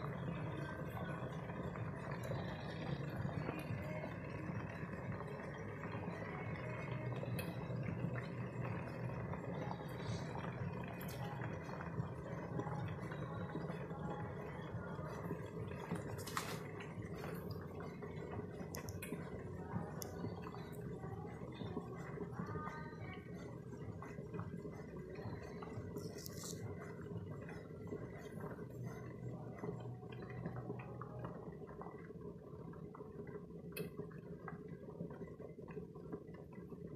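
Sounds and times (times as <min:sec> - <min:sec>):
pots boiling and bubbling: 0:00.0 - 0:36.9.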